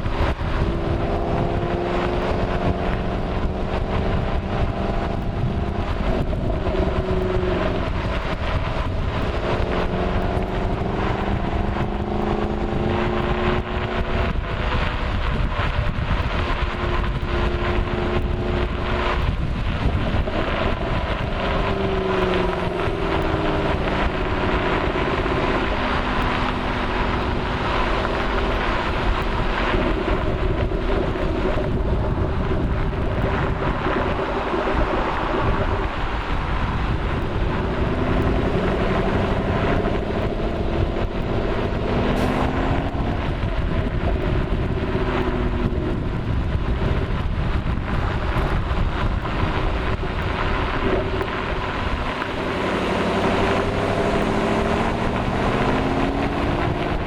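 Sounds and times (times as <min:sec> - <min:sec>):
car engine accelerating: 0:00.0 - 0:57.0
exhaust crackles: 0:00.0 - 0:57.0
road and wind rumble: 0:00.0 - 0:57.0.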